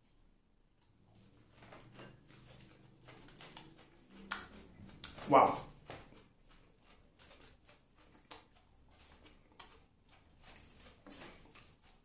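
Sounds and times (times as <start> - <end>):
mouth clicks and chewing: 0.7 - 12.0.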